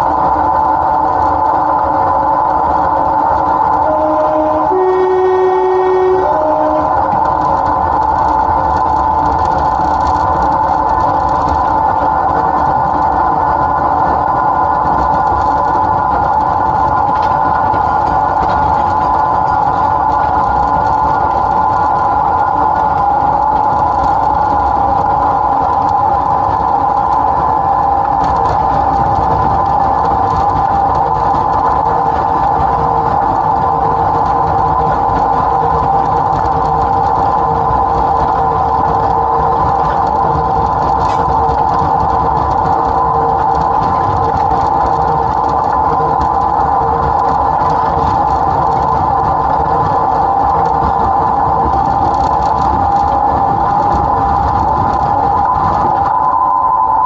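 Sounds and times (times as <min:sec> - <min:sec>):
diesel locomotive engine rumble: 0:00.0 - 0:57.0
high whine: 0:00.0 - 0:57.0.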